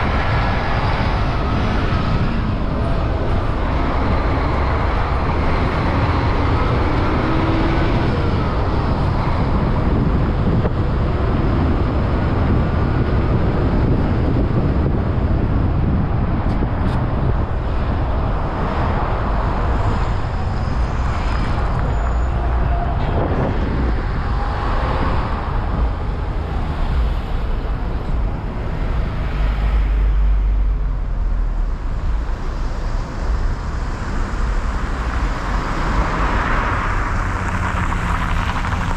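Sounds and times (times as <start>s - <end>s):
road traffic rumble: 0.0s - 38.9s.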